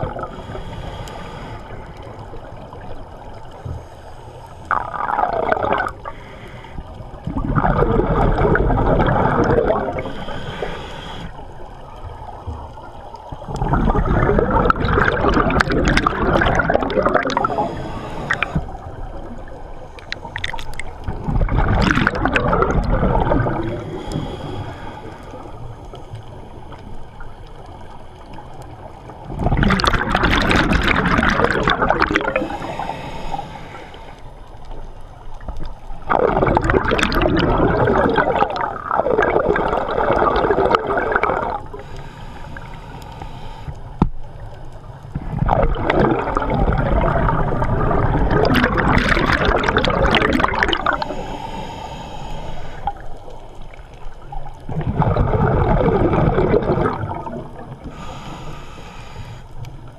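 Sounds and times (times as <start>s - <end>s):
underwater exhaust bubbles: 0.0s - 59.9s.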